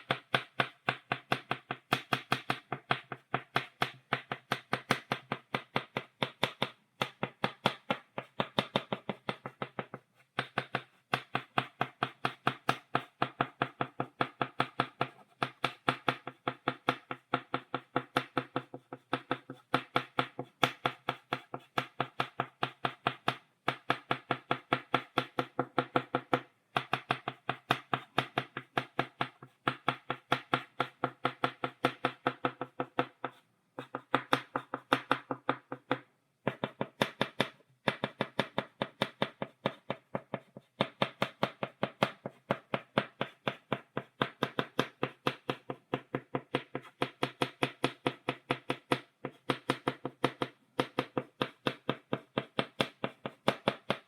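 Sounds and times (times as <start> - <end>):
chalk tapping on blackboard: 0.0 - 54.0.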